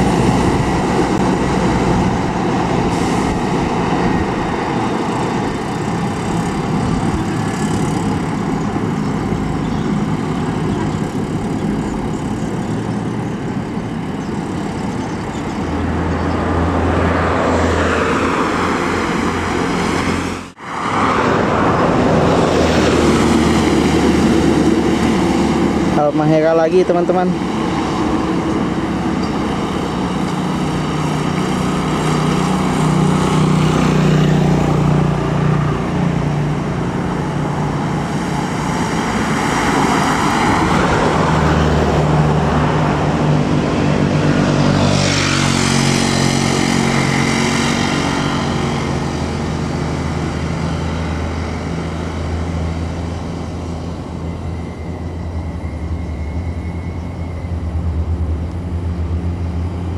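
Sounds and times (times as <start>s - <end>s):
bus passing by: 0.0s - 59.9s.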